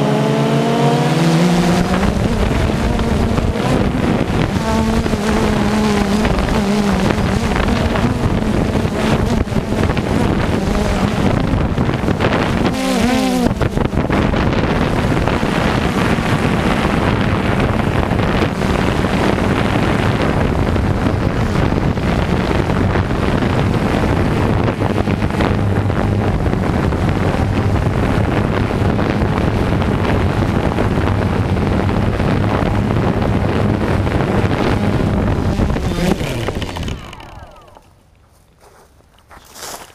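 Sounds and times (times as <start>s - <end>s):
farm machinery engine running: 0.0s - 38.0s
wind buffeting microphone: 0.0s - 38.0s.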